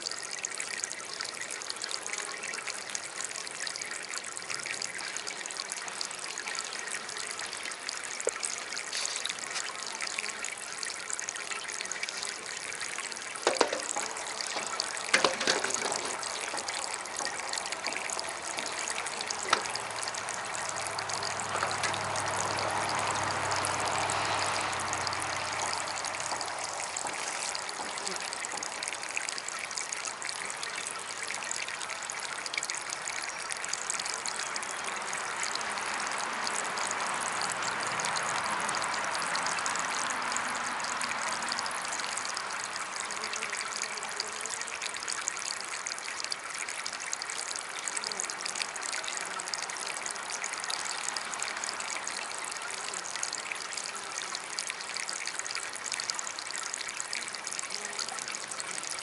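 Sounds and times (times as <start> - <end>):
water fountain trickling: 0.0 - 59.0.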